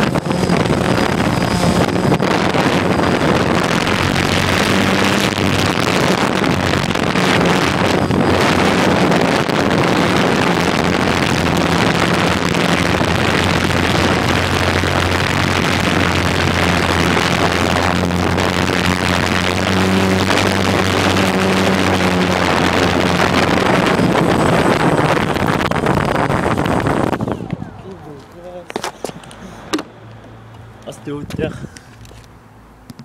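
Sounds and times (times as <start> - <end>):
drone propellers buzzing: 0.0 - 28.3.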